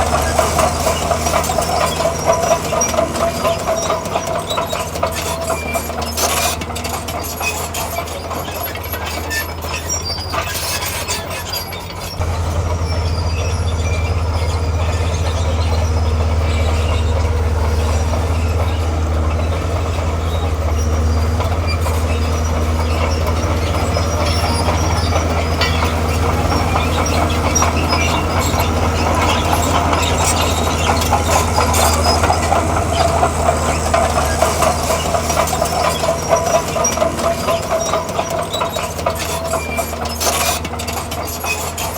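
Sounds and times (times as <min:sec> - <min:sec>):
diesel engine running: 0:00.0 - 0:41.9
steel tracks clanking: 0:00.0 - 0:41.9.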